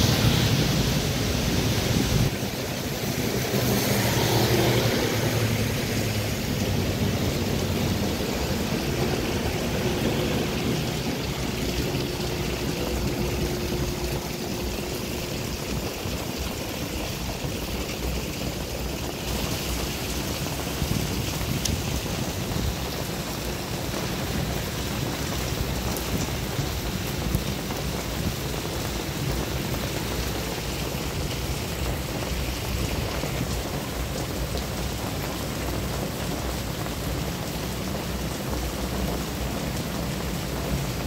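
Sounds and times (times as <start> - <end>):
rain falling on street: 0.0 - 41.0
traffic on wet asphalt: 0.0 - 41.0.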